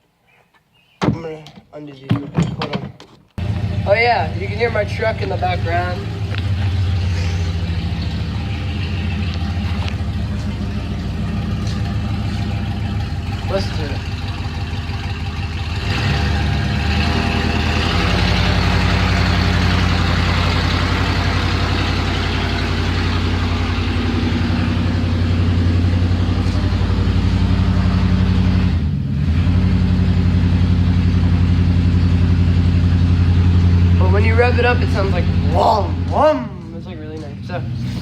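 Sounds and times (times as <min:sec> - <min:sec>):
truck engine running: 0:03.4 - 0:38.0.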